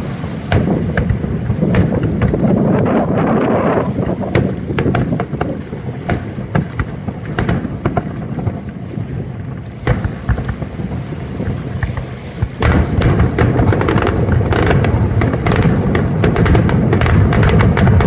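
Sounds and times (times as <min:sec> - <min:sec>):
fireworks booming and cracking: 0:00.0 - 0:18.0
rapid crackling fireworks: 0:00.0 - 0:18.0.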